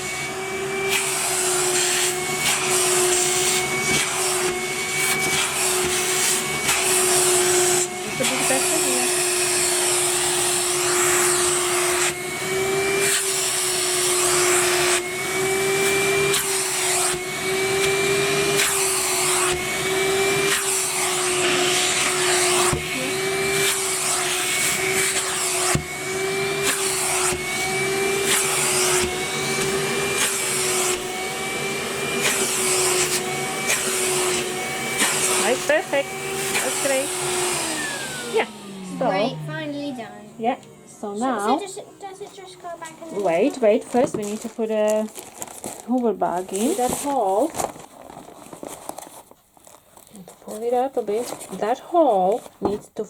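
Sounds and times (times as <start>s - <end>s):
vacuum cleaner running: 0.0s - 47.7s.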